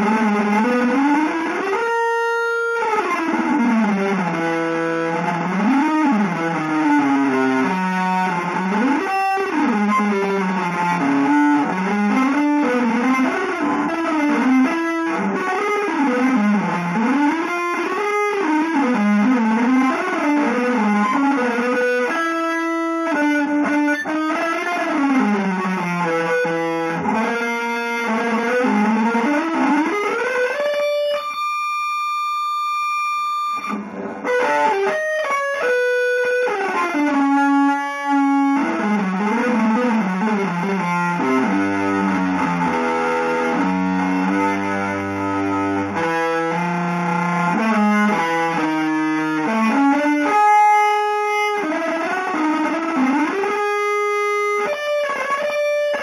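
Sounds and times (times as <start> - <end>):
electric guitar gliding line: 0.0 - 56.0.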